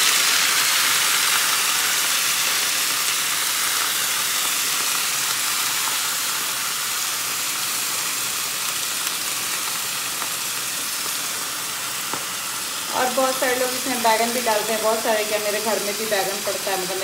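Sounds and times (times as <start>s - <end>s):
spinach sizzling in hot oil: 0.0s - 17.0s.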